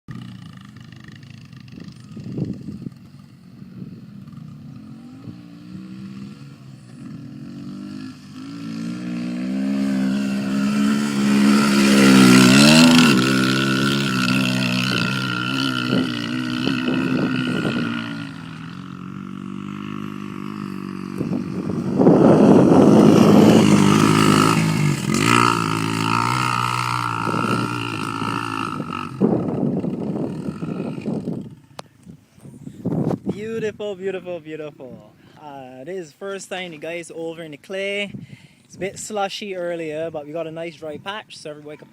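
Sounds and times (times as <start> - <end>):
dirt bike engines revving: 0.1 - 41.9.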